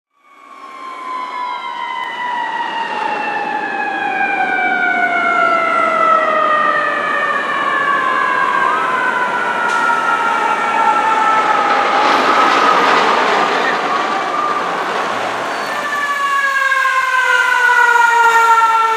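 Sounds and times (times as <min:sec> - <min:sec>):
fire engine siren wailing: 0:00.1 - 0:18.9.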